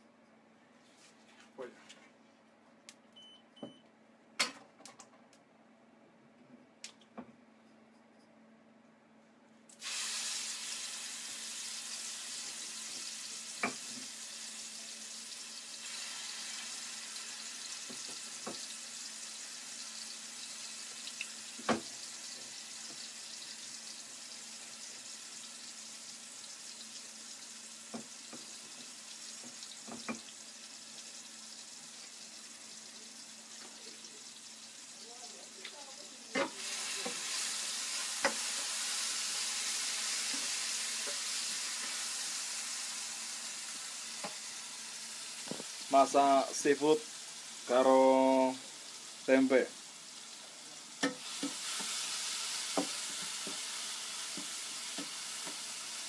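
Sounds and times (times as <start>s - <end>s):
food sizzling in hot oil: 9.8s - 56.0s.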